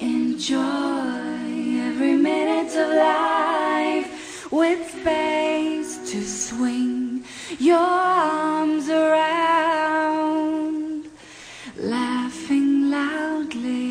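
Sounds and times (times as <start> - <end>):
woman singing slow song: 0.0 - 13.9.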